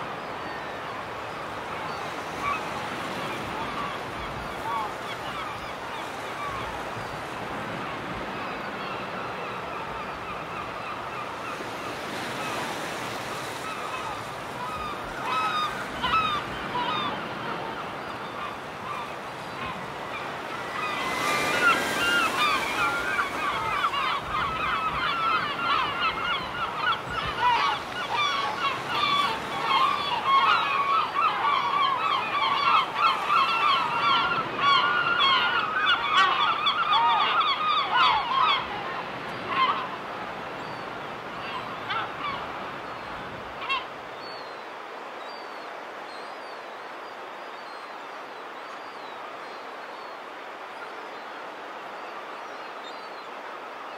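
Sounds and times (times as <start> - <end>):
flock of gulls calling: 0.1 - 53.9.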